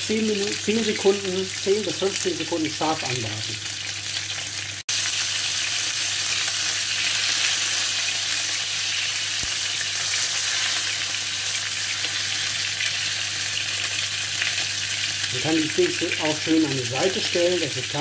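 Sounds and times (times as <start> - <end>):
steaks sizzling in a pan: 0.1 - 18.0.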